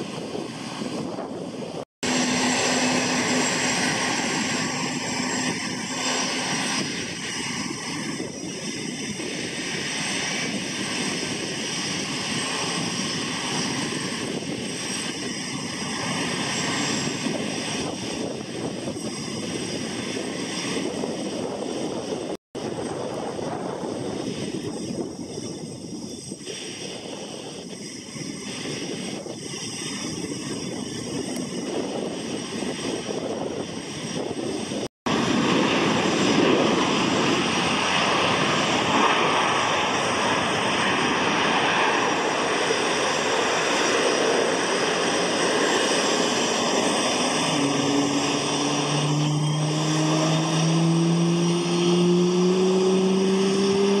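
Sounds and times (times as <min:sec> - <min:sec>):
jet engine whine spooling up: 0:00.0 - 0:54.0
jet engines rushing: 0:00.0 - 0:54.0.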